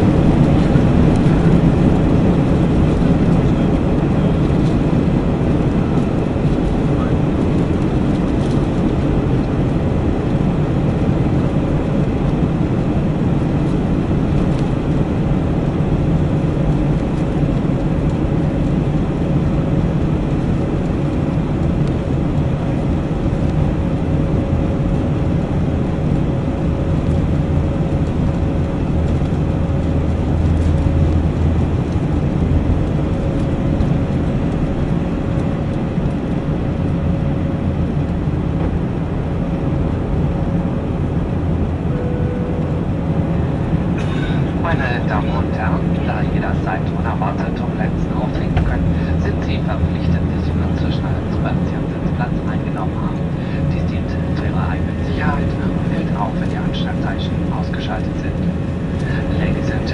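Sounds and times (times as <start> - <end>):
faint steady hum: 0.0 - 59.9
jet engines at takeoff thrust: 0.0 - 59.9
takeoff roll rumble: 0.0 - 59.9.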